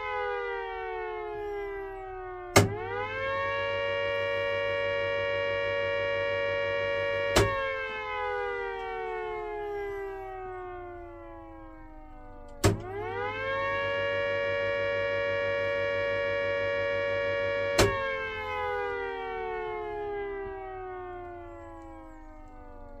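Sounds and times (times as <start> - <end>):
electric siren wailing: 0.0 - 23.0.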